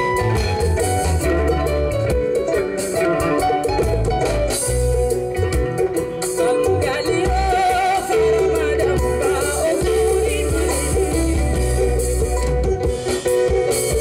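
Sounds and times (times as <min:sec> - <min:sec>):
bass guitar: 0:00.0 - 0:14.0
drums: 0:00.0 - 0:14.0
electric guitar melody: 0:00.0 - 0:14.0.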